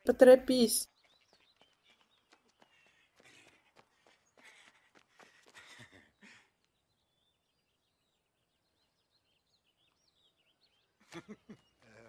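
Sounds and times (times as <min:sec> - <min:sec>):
faint birdsong chirps: 0:00.1 - 0:12.0.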